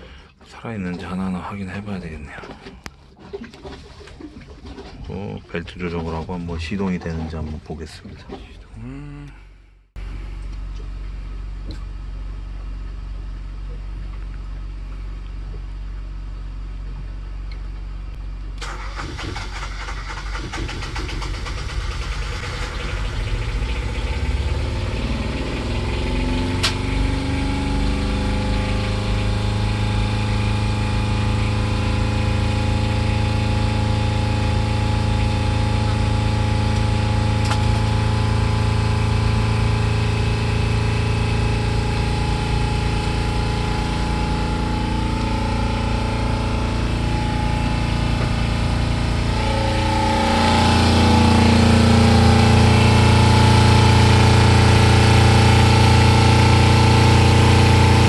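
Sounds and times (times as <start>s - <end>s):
diesel generator cranking and running: 0.0s - 13.4s, 16.3s - 58.0s
low hum: 0.0s - 58.0s.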